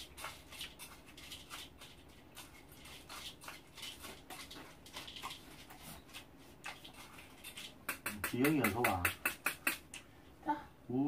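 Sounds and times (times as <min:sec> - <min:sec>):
person chewing wetly: 0:00.0 - 0:10.0.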